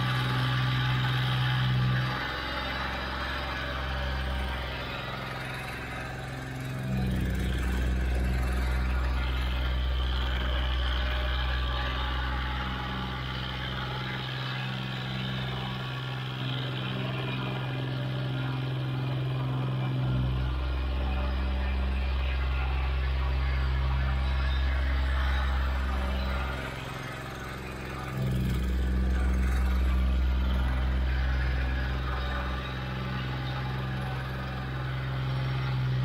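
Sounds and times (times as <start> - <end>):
plate compactor engine running: 0.0 - 36.0
plate vibrating with low throb: 0.0 - 36.0.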